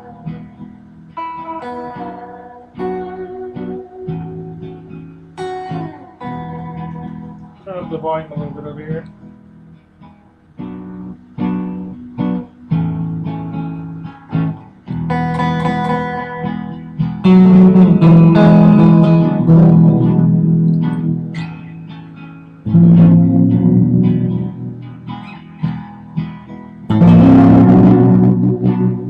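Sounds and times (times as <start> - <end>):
loud ringing guitar chords: 0.0 - 9.7, 10.6 - 29.0
electric guitar notes: 0.0 - 29.0.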